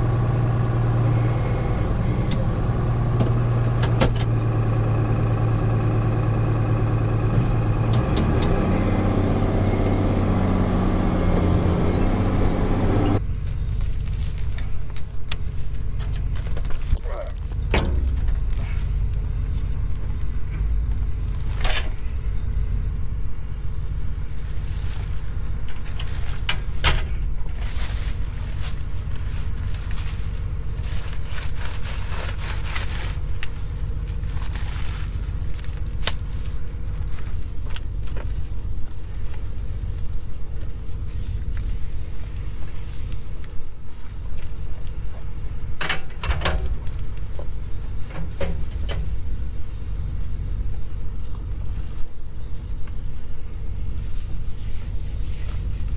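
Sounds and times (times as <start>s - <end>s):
tractor engine rumble: 0.0s - 55.9s.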